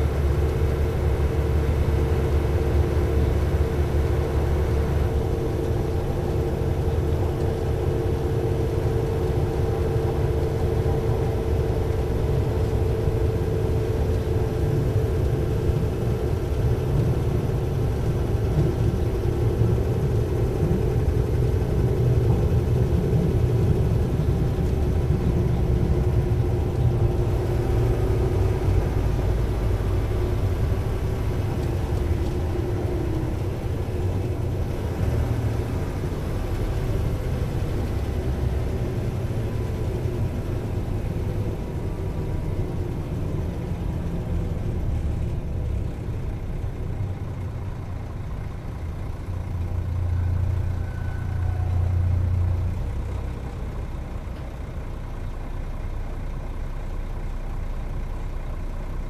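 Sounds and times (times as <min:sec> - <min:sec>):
diesel engine rumbling: 0:00.0 - 0:59.0.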